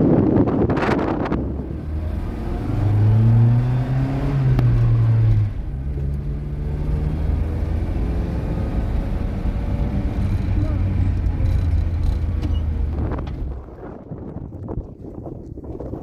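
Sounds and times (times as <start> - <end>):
vehicle engine running: 0.2 - 14.2.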